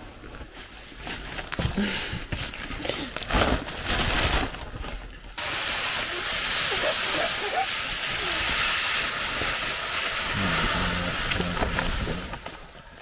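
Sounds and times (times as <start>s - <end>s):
paper sack crinkling: 0.0s - 5.4s, 6.7s - 13.0s.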